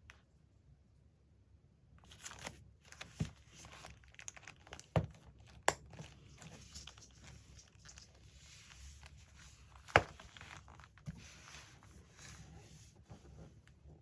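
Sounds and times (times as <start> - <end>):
paper rustling and crinkling: 2.0 - 13.7.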